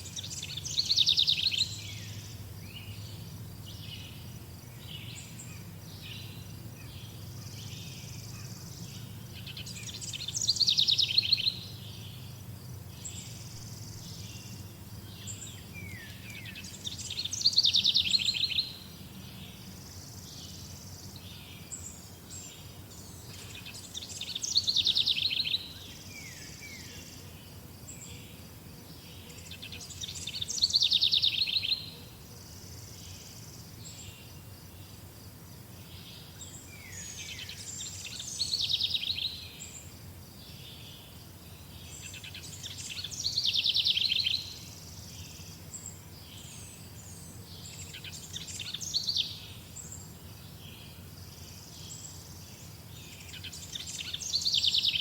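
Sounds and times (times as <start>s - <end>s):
bird singing fast trill: 0.0s - 27.2s, 29.4s - 32.0s, 35.9s - 55.0s
songbirds chirping: 0.0s - 55.0s.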